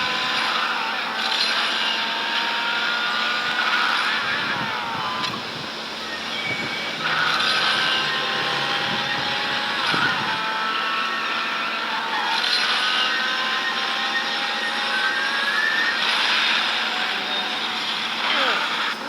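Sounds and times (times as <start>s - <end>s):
car running with hiss: 0.0s - 19.0s
high whining tones: 0.0s - 19.0s.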